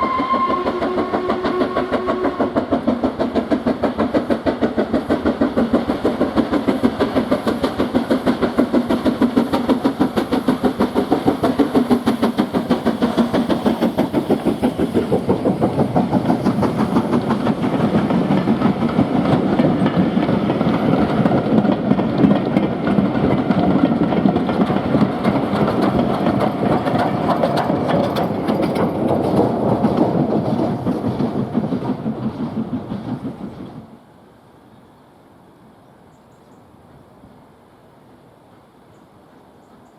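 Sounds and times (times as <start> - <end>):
steam locomotive exhaust beats: 0.0 - 34.1.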